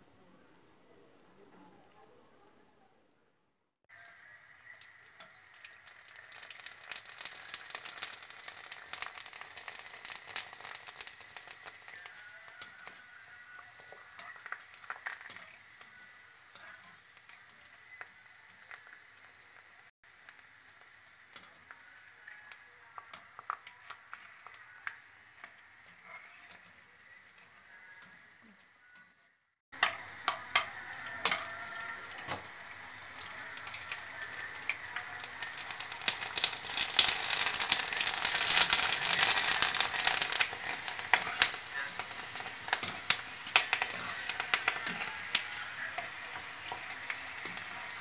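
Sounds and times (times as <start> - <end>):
crackers sizzling in hot oil: 3.9 - 28.4, 29.7 - 48.0.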